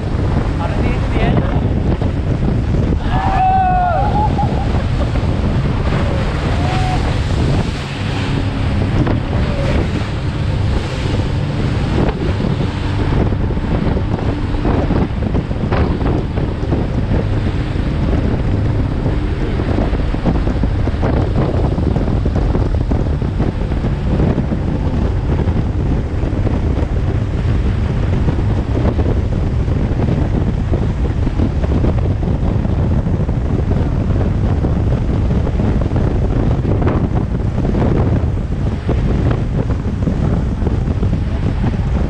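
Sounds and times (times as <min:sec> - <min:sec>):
water rushing past hull: 0:00.0 - 0:42.0
wind rumble on microphone: 0:00.0 - 0:42.0.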